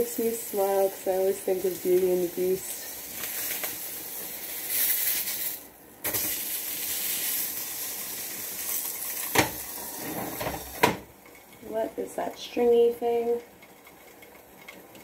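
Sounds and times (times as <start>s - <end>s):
burgers sizzling in a frying pan: 0.0s - 15.0s.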